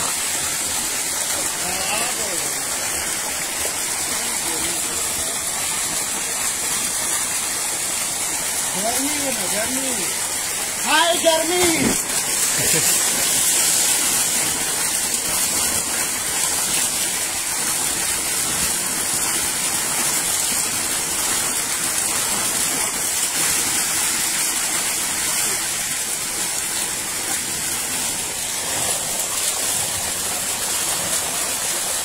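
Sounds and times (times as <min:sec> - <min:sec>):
water gushing into a tank: 0:00.0 - 0:32.0.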